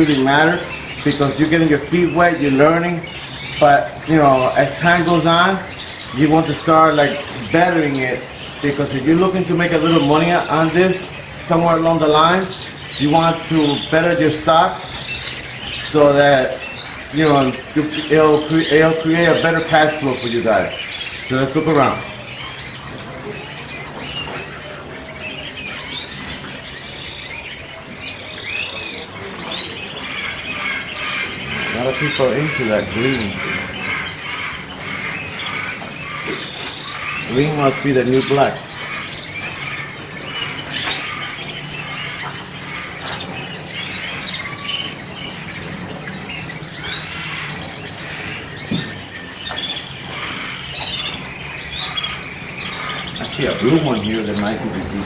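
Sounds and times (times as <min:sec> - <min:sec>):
caged birds chirping and trilling: 0:00.0 - 0:55.0.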